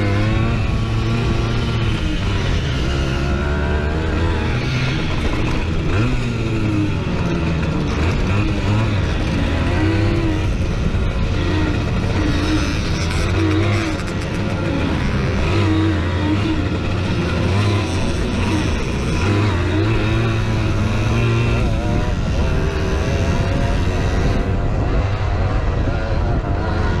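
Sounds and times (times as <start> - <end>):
two-stroke moped engine racing: 0.0 - 27.0.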